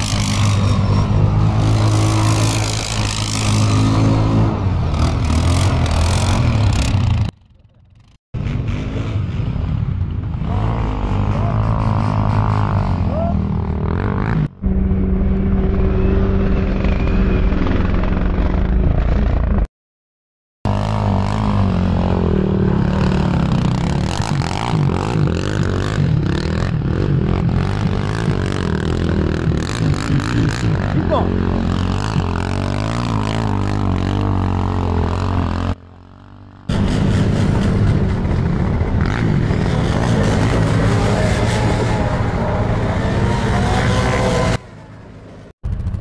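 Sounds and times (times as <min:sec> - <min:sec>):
atv engines revving: 0:00.0 - 0:19.7, 0:20.7 - 0:46.0.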